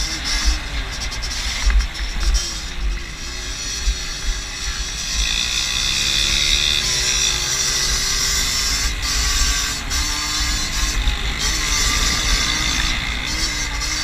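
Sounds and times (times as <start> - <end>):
moped engine buzzing: 0.0 - 14.0
wind buffeting microphone: 0.0 - 14.0.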